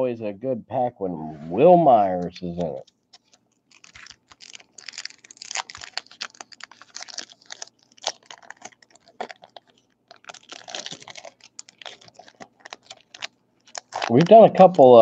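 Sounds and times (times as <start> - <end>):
foil wrapper crinkling: 2.8 - 15.0.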